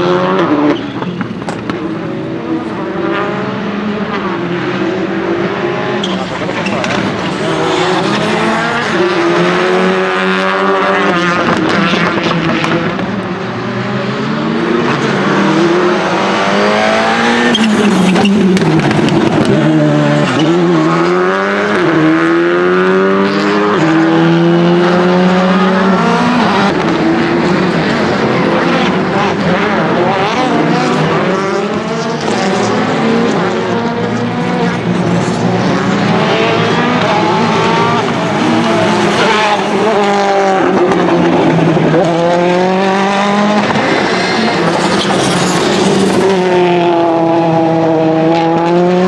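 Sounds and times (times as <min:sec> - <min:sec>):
rally car engine revving: 0:00.0 - 0:49.0.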